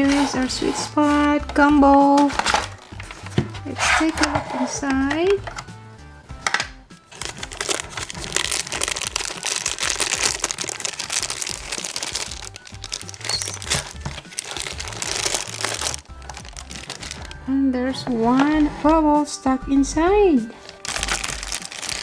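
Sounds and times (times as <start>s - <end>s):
plastic packaging crinkling: 0.0s - 5.6s, 6.4s - 18.7s, 20.4s - 22.0s
background music: 0.0s - 22.0s.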